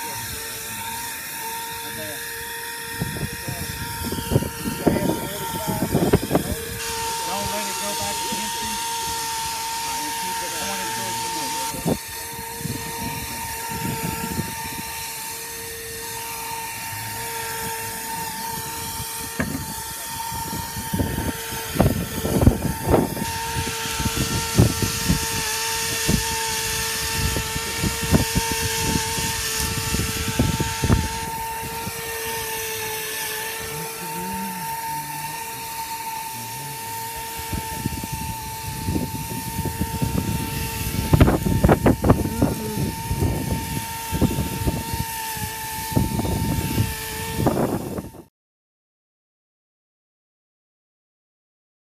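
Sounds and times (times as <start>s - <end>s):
spray gun whining: 0.0s - 48.3s.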